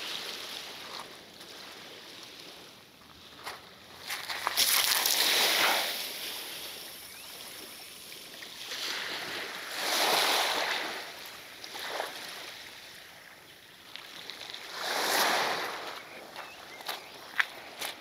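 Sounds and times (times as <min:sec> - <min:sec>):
small waves washing onto shore: 0:00.0 - 0:18.0.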